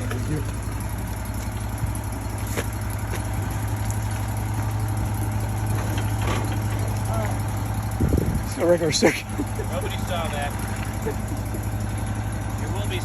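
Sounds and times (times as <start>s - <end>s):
sawmill engine idling: 0.0s - 13.0s.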